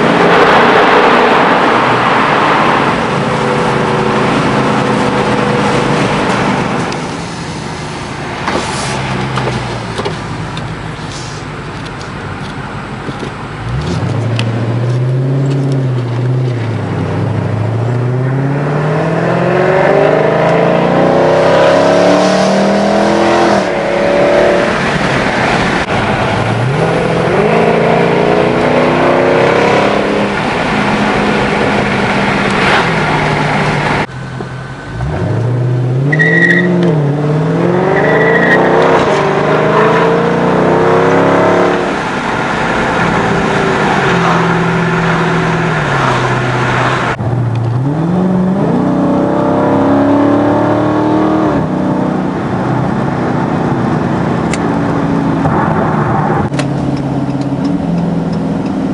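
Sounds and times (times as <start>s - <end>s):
car exhaust revving: 0.0s - 11.5s, 13.0s - 58.9s.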